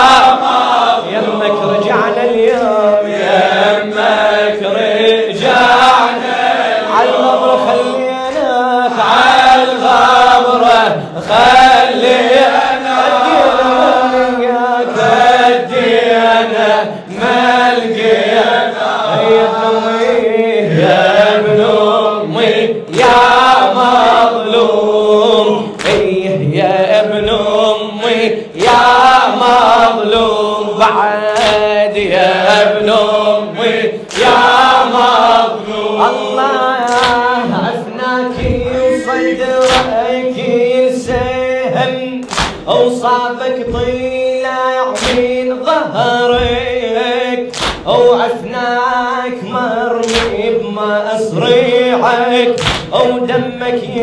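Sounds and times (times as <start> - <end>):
men chanting a lament in unison: 0.0 - 54.0.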